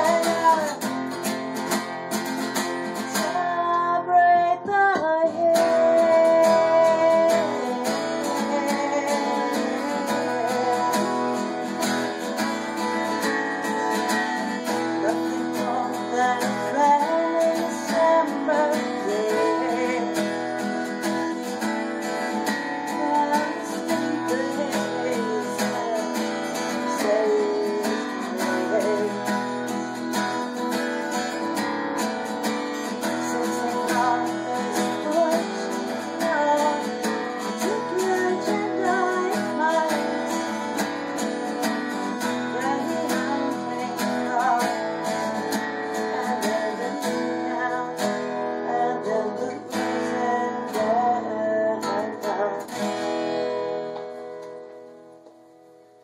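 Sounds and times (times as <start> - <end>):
woman singing: 0.0 - 53.9
acoustic guitars strummed: 0.0 - 56.0.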